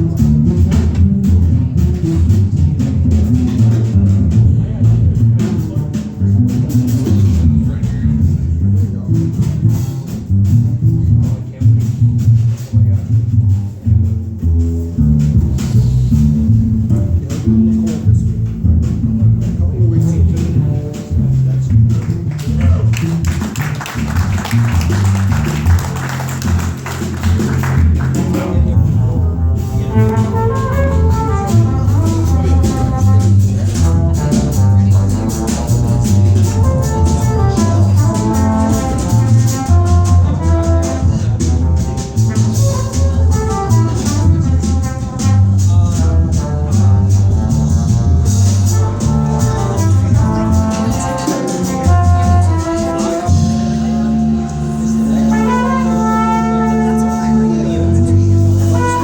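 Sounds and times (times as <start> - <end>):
fast ticking percussion: 0.0 - 59.0
plucked bass notes: 0.0 - 59.0
small band playing live: 0.0 - 59.0.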